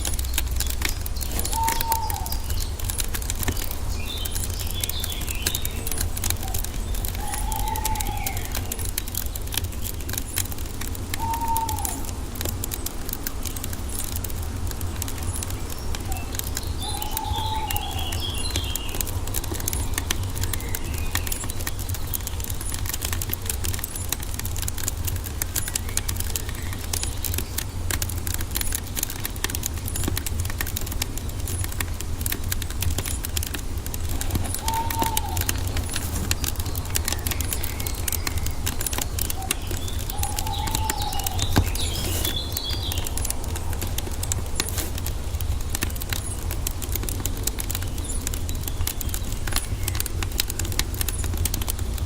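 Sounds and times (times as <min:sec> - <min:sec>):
birds calling: 0:00.0 - 0:51.5
wood fire crackling: 0:00.0 - 0:52.0.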